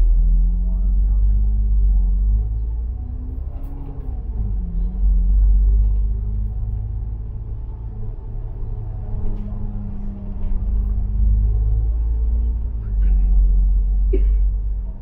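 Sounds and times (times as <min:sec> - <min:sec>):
bus engine: 0:00.0 - 0:15.0
road rumble: 0:00.0 - 0:15.0.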